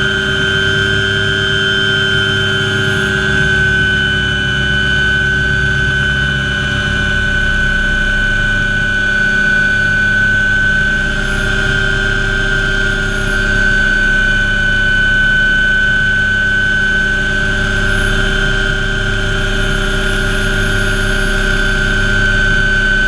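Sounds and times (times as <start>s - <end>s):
helicopter rotor beat: 0.0s - 23.0s
turbine engine whine: 0.0s - 23.0s.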